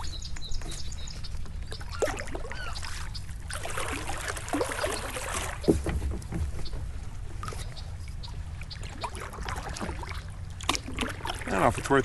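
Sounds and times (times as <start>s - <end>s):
water drips and splashes: 0.0s - 6.4s, 7.4s - 12.0s
paddle pulling through water: 0.0s - 12.0s.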